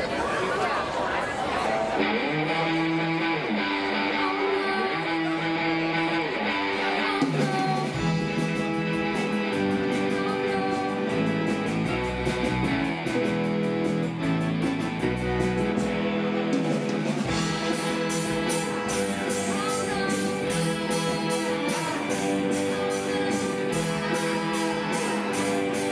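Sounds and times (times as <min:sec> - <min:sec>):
rock band playing: 0:01.9 - 0:25.9.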